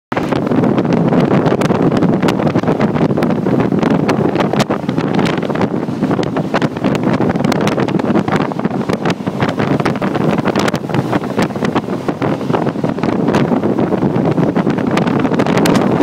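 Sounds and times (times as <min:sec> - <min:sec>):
boat engine: 0:00.1 - 0:16.0
water rushing: 0:00.1 - 0:16.0
wind buffeting microphone: 0:00.1 - 0:16.0.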